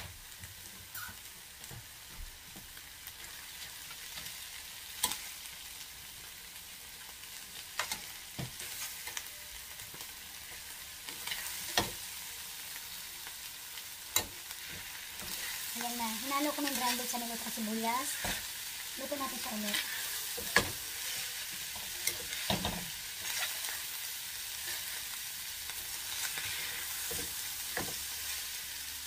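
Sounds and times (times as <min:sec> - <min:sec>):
meat and onions sizzling: 0:00.0 - 0:29.0.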